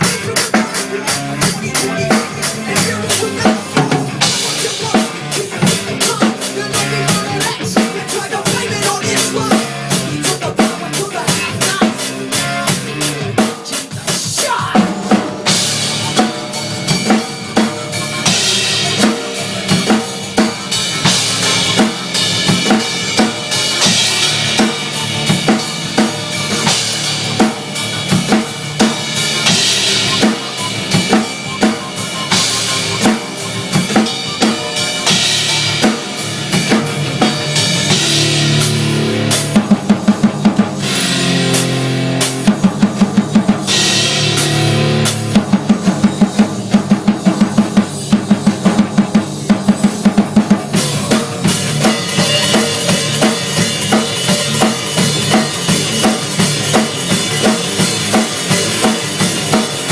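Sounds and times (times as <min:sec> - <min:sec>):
drum kit played hard: 0:00.0 - 0:59.9
loud rock music: 0:00.0 - 0:59.9.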